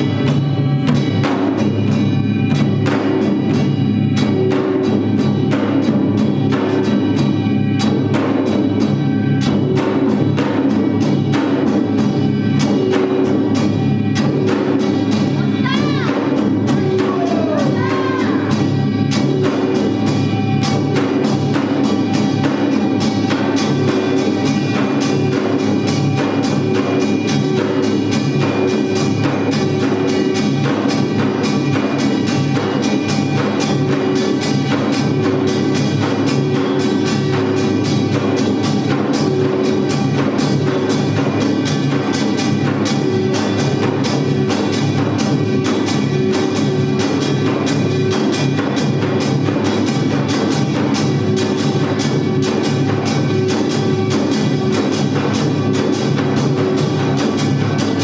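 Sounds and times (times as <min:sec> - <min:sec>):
drums beating: 0:00.0 - 0:58.0.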